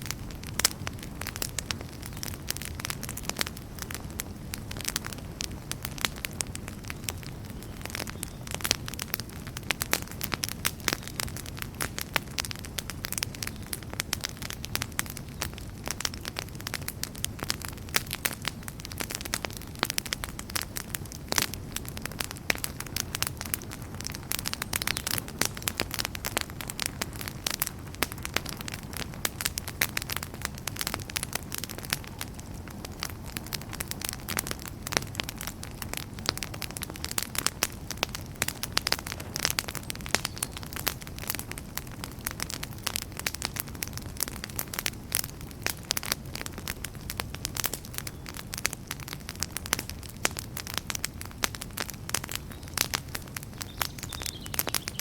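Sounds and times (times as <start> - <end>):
campfire crackling and popping: 0.0 - 55.0
rush of flames: 0.0 - 55.0.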